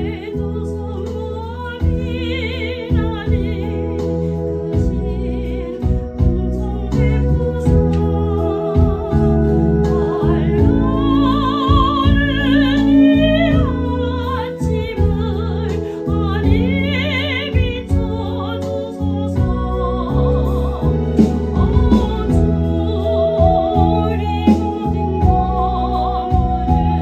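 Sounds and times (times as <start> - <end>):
gospel singing with vibrato: 0.0 - 27.0
keyboard chords: 0.0 - 27.0.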